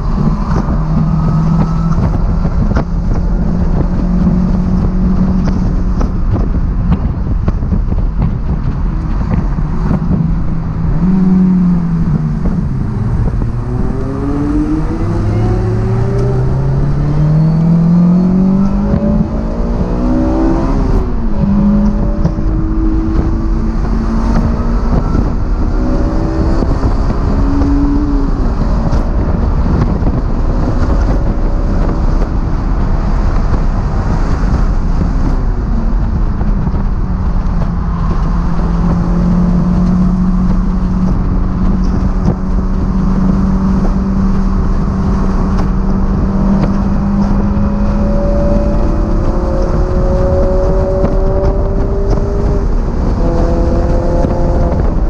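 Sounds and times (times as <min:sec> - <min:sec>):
car engine revving: 0:00.0 - 0:55.0
wind and road rumble: 0:00.0 - 0:55.0.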